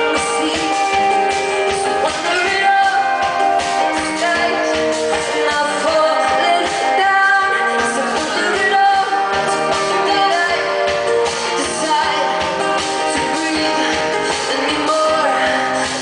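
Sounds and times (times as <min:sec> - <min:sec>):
acoustic guitar: 0:00.0 - 0:16.0
woman singing: 0:00.0 - 0:16.0.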